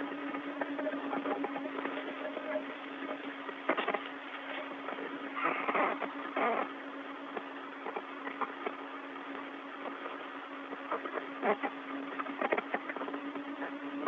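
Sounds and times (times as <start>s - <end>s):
low radio hum: 0.0s - 14.0s
radio hiss: 0.0s - 14.0s.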